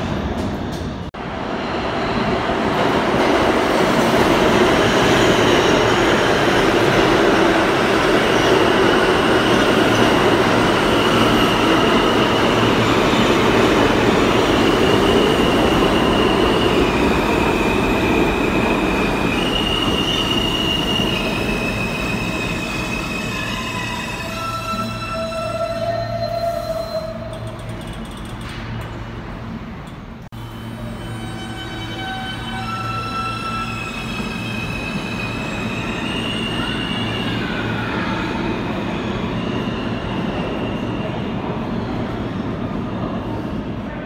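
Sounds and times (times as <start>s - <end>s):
subway train wheels rumbling: 0.0s - 44.0s.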